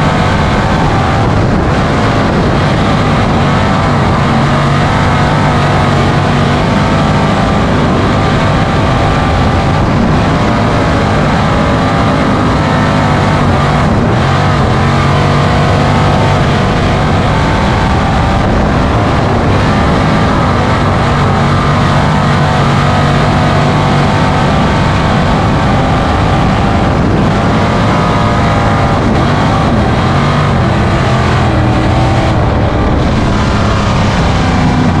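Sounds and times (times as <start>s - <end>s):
race car engine running: 0.0s - 35.0s.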